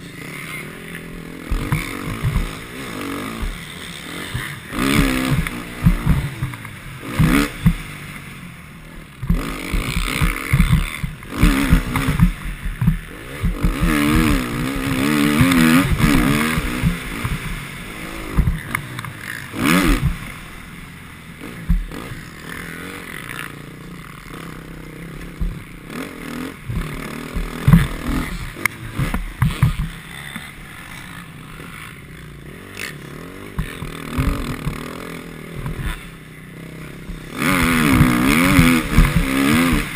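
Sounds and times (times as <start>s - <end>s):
motocross bike engine revving: 0.0s - 39.9s
rushes of noise: 0.0s - 39.9s.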